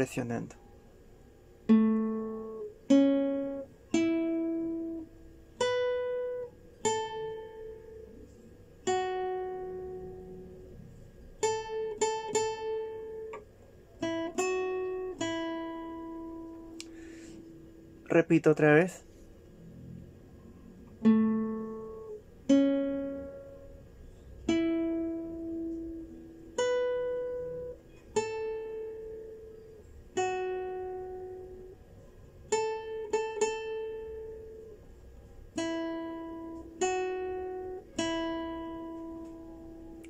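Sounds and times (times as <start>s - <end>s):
classical guitar slow melody: 0.4s - 40.0s.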